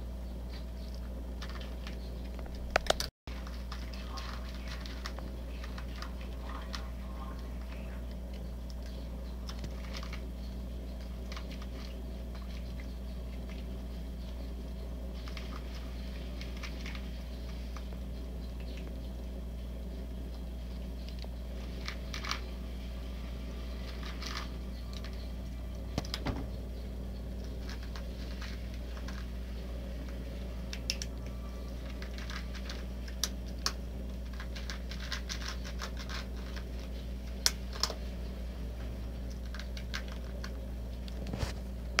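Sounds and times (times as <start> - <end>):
steady low hum: 0.0 - 42.0
cats crunching dry kibble: 0.5 - 26.2, 27.0 - 41.7.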